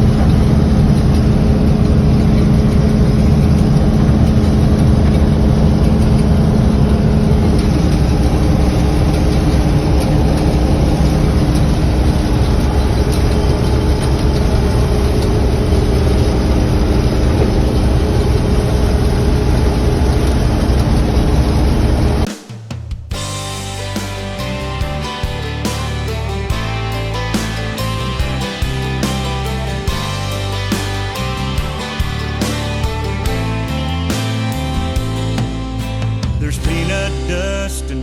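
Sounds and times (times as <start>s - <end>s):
heavy machinery engine droning: 0.0s - 22.3s, 23.2s - 38.0s.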